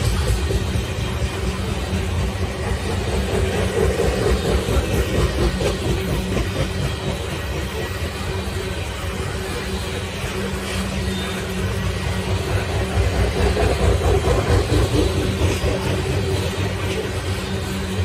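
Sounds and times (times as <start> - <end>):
freight train wheels rumbling: 0.0 - 18.0
wheels clickety-clack: 0.0 - 18.0.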